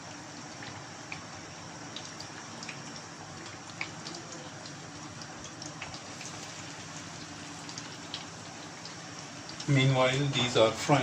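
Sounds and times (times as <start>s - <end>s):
fritters sizzling in hot oil: 0.0s - 11.0s.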